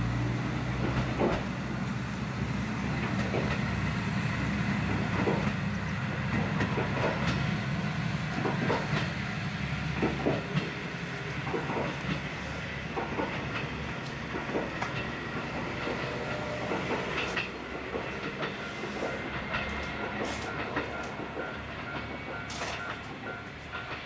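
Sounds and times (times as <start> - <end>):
diesel railcar engine running: 0.0 - 24.0
wheels clicking on rail joints: 0.7 - 4.0, 4.6 - 9.3, 9.9 - 10.8, 11.4 - 24.0.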